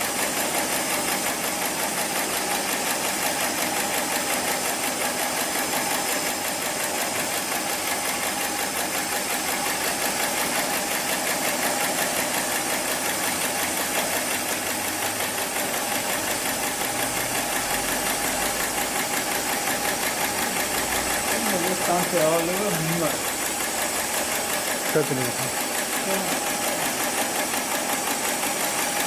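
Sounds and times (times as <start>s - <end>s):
sewing machine stitching webbing: 0.0s - 29.0s.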